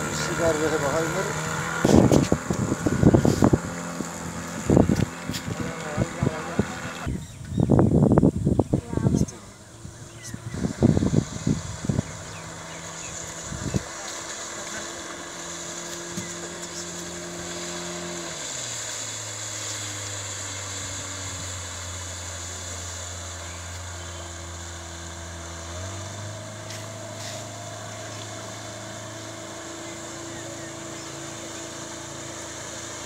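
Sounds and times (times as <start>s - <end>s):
motor boat engine running: 0.0s - 33.0s.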